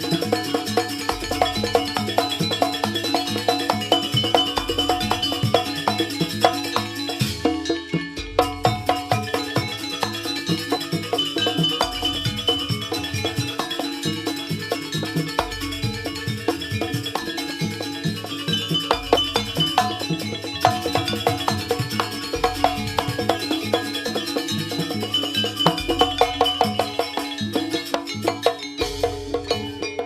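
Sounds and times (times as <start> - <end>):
gamelan percussion: 0.0 - 30.0.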